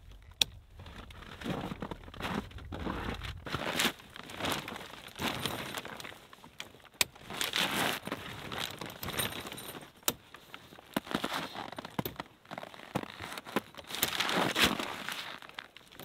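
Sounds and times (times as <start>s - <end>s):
tent fabric rustling: 0.7s - 16.0s.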